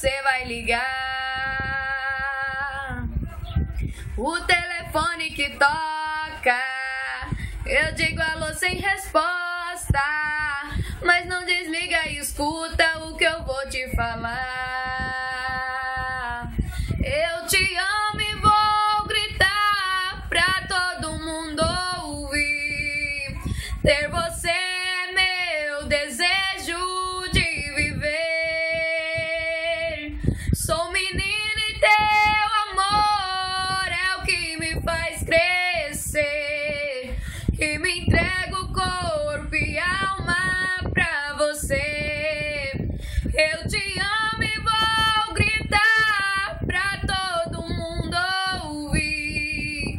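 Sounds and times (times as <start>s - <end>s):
woman singing ballad: 0.0s - 3.1s, 4.0s - 49.9s.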